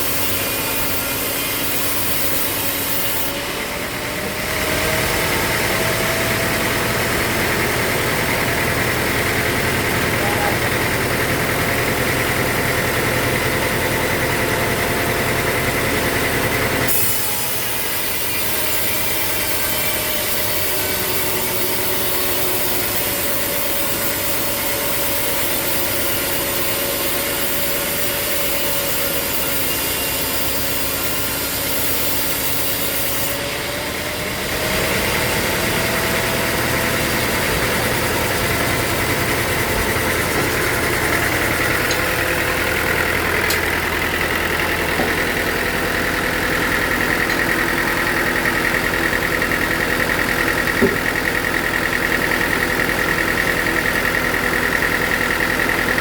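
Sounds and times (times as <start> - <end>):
saw cutting through wood: 0.0 - 56.0
sawmill machinery running: 0.0 - 56.0.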